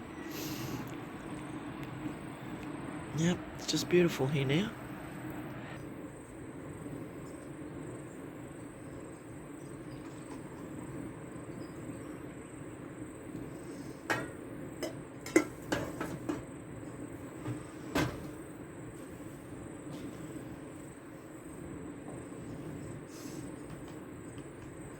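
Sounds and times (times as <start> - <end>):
gas camp stove humming: 0.0 - 24.9.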